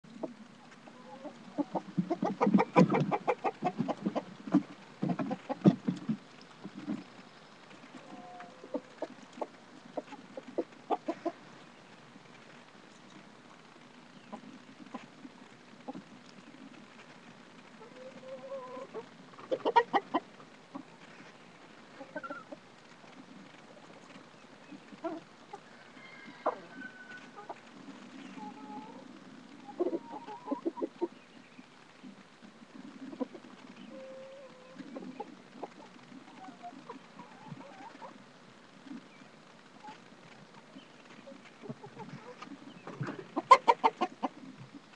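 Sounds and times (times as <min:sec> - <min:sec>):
chickens clucking: 0:00.1 - 0:12.5, 0:13.1 - 0:44.9.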